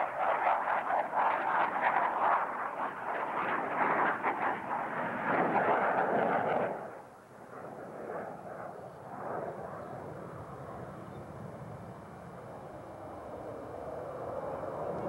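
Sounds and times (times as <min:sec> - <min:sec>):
fighter jet engine roaring: 0:00.0 - 0:15.0.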